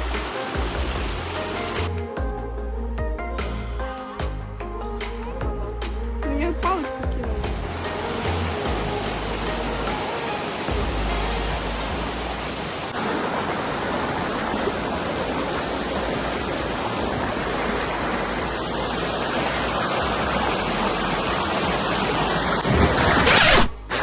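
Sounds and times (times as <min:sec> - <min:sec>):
waterfall rushing: 0:00.0 - 0:02.2, 0:06.6 - 0:24.0.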